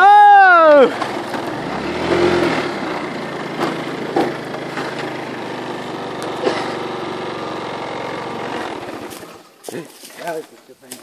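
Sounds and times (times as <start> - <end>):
motor scooter engine running: 0.0 - 9.8.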